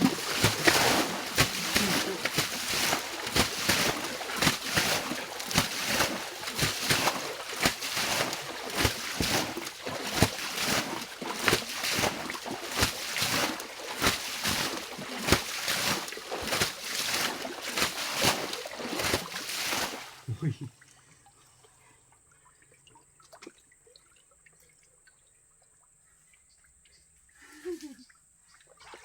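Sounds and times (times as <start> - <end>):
water splashing and sloshing: 0.0 - 26.9, 28.4 - 29.0.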